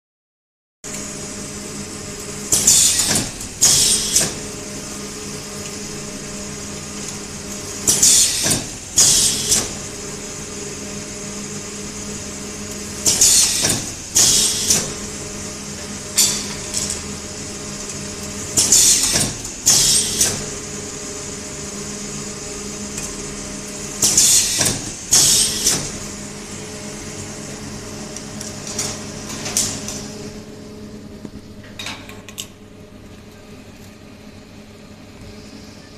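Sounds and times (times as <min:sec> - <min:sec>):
machine motor hum: 0:00.9 - 0:35.9.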